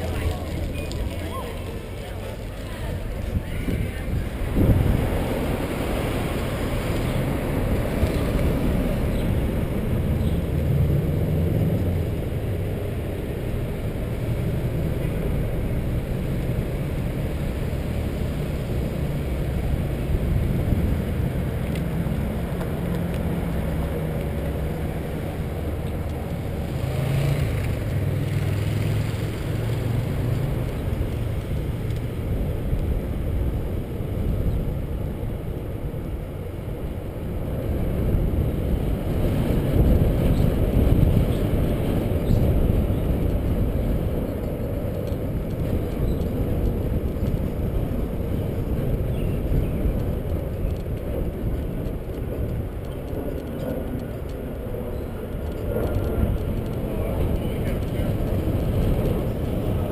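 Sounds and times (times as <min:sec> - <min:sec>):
bicycle tyre and road noise: 0:00.0 - 0:59.9
wind buffeting microphone: 0:00.0 - 0:59.9.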